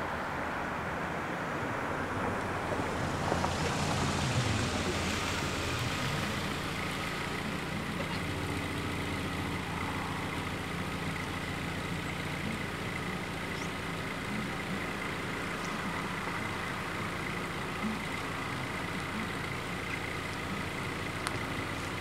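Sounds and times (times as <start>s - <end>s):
car driving up and stopping: 0.0s - 22.0s
car engine idling: 0.0s - 22.0s.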